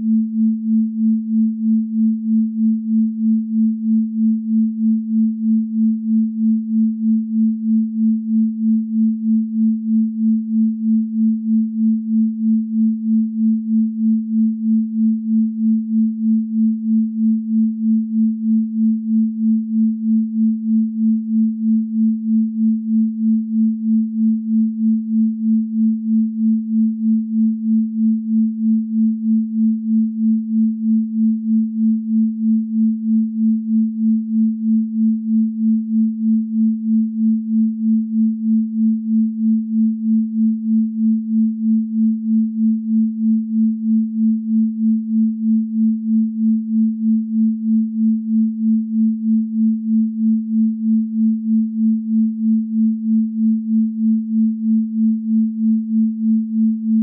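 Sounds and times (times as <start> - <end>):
pulsing sine tone: 0.0 - 57.0.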